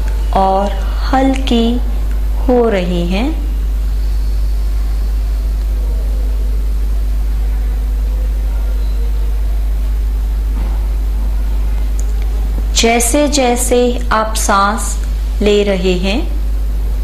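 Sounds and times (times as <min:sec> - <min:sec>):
steady low-pitched hum: 0:00.0 - 0:17.0.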